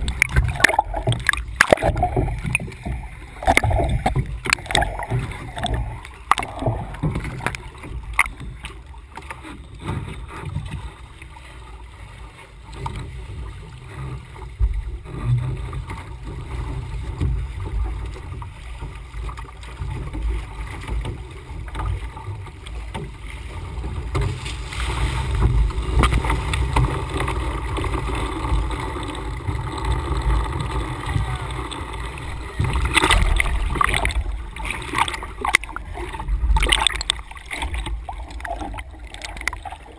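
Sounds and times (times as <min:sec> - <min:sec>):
water sloshing against boat hull: 0:00.0 - 0:39.9.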